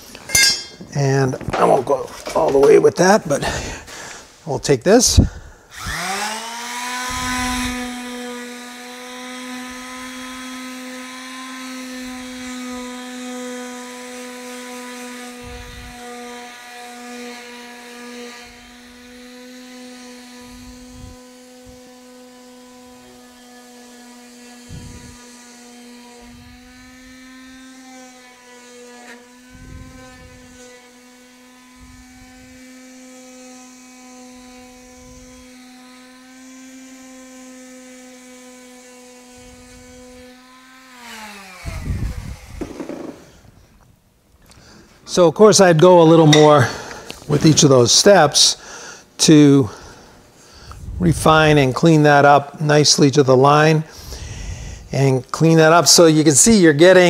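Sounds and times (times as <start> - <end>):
palm sander whining: 0.0 - 57.0.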